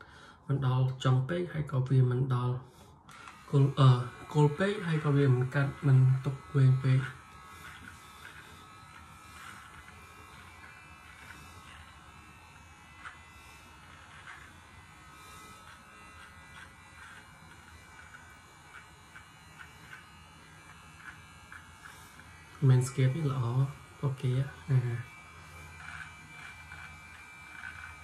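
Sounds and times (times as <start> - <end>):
electric trimmer buzzing: 2.7 - 28.0
ticks of hair being clipped: 3.1 - 28.0.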